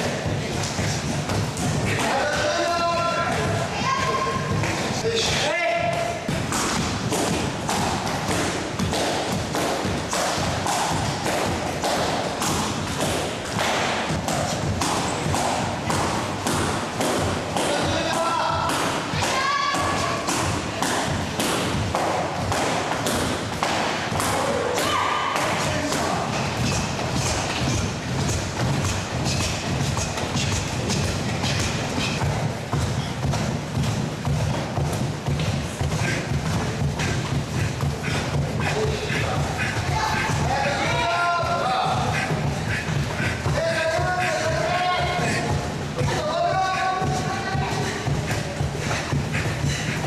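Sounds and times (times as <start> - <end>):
belts slapping: 0.0 - 50.0.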